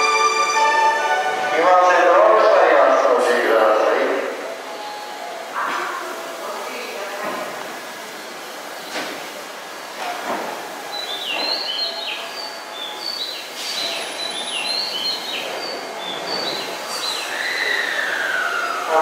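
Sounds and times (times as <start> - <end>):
station platform noise: 0.0 - 19.0.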